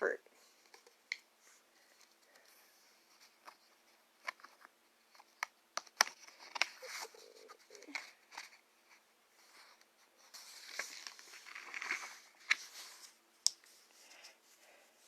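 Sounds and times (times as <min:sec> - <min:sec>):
faint rustling and handling noise: 0:00.0 - 0:15.0.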